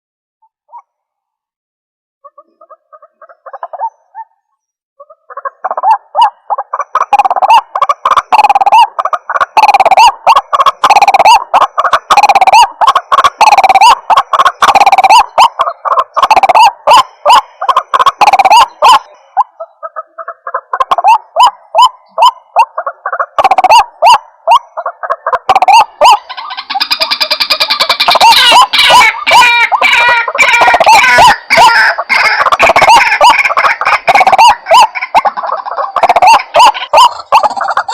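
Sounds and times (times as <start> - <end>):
waterhen croaking calls: 2.2 - 37.9.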